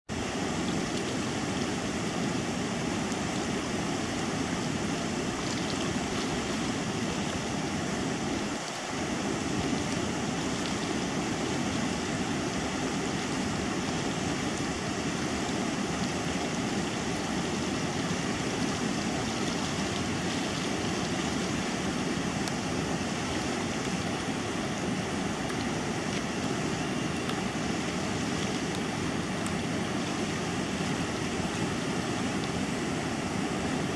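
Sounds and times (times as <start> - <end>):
whitewater rapids roaring: 0.1 - 33.9.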